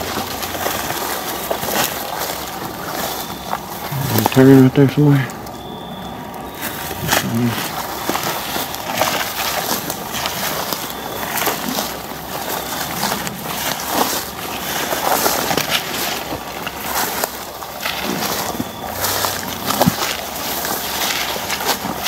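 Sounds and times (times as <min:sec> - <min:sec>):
leaves brushing against clothing: 0:00.0 - 0:05.5, 0:06.3 - 0:22.0
footsteps through tall grass: 0:00.0 - 0:22.0.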